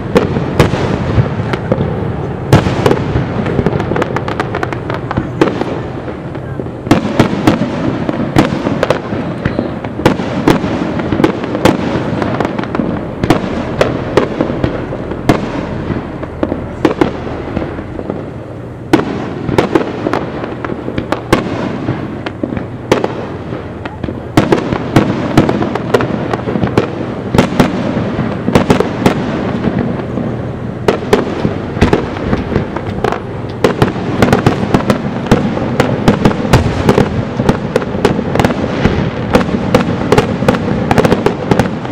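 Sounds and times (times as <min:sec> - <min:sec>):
fireworks bursting: 0:00.0 - 0:41.9
rumble of fireworks booms: 0:00.0 - 0:41.9.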